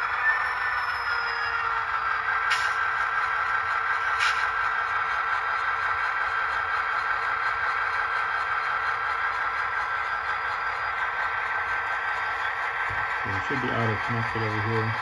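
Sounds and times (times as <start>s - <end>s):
thin diesel locomotive idling sound: 0.0s - 15.0s.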